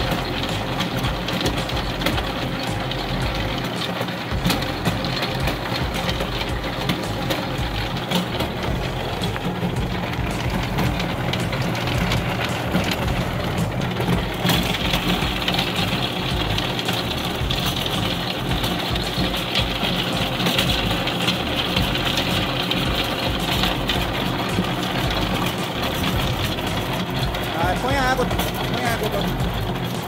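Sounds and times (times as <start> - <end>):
pulping machine running: 0.0 - 30.0.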